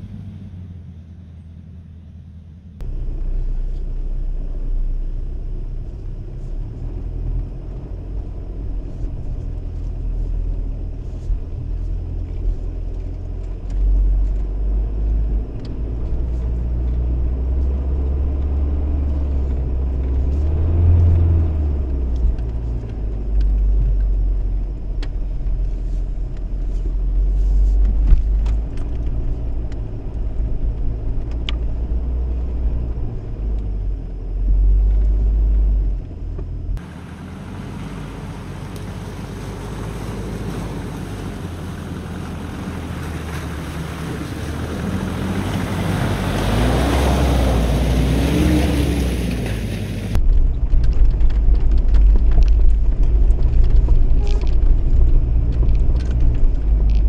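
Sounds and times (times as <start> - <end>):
diesel engine low rumble: 0.0 - 57.0.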